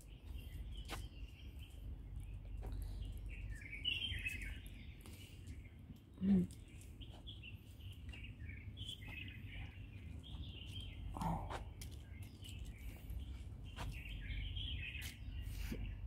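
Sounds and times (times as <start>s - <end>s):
birds chirping and singing: 0.0s - 16.0s
low background rumble: 0.0s - 16.0s.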